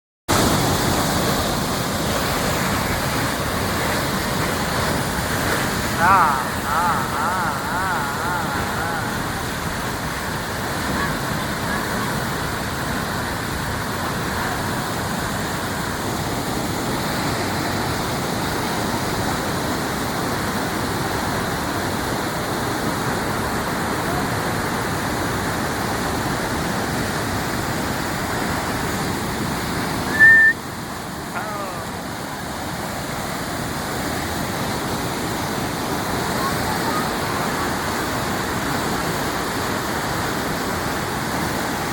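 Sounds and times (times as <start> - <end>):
flooded river rushing: 0.3 - 41.9.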